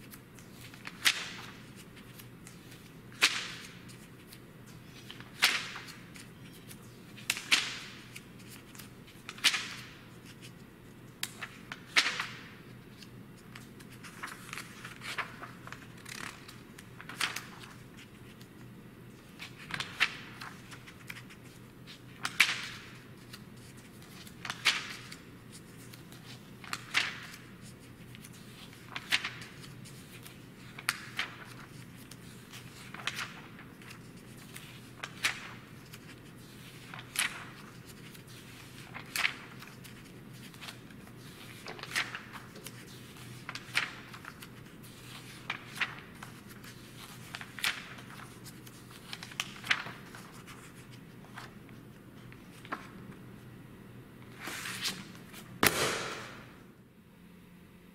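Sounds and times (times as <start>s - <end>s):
magazine pages turning: 0.0s - 53.2s, 54.2s - 56.5s
faint steady hum: 0.0s - 57.9s.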